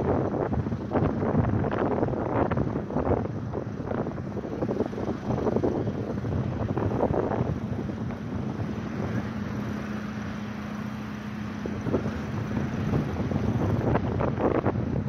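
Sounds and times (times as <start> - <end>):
light aircraft engine humming: 0.0 - 15.0
wind rumbling on microphone: 0.0 - 15.0.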